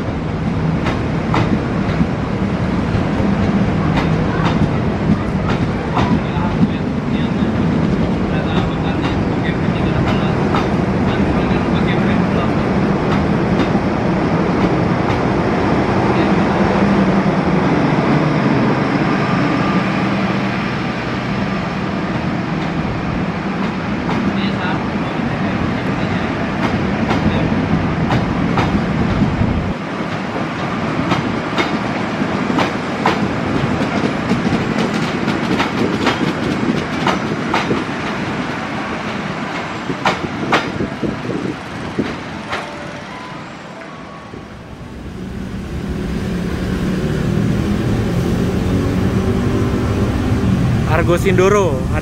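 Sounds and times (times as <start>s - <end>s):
heavy train rumble: 0.0s - 52.0s
train engine hum: 0.0s - 52.0s.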